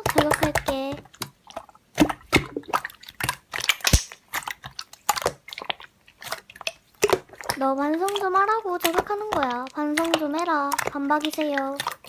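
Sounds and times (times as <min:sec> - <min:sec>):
slime squishing by hand: 0:00.0 - 0:12.0.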